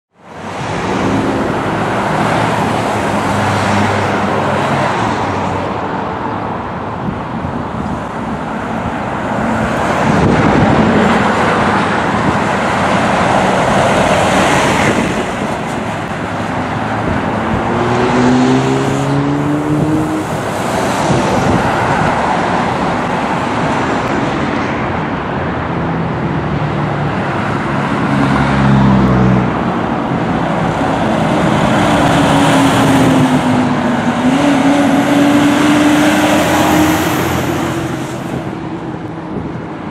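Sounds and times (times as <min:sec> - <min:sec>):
traffic noise: 0:00.1 - 0:39.9
diesel engines driving past: 0:00.2 - 0:39.9.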